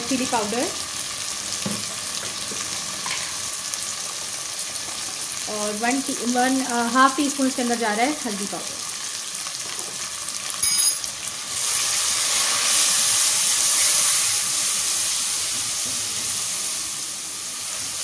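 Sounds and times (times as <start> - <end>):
masala sizzling in hot oil: 0.0 - 18.0.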